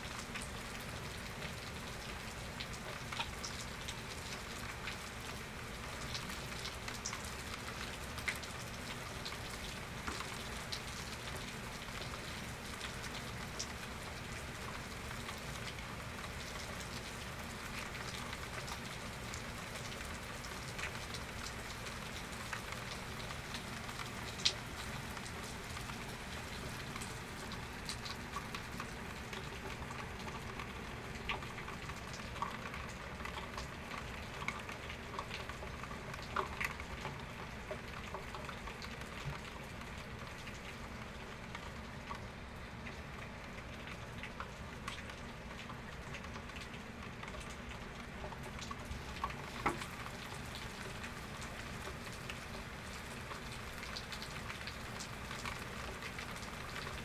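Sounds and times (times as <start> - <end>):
raindrops clicking close by: 0.0 - 57.0
steady rain falling: 0.0 - 57.0.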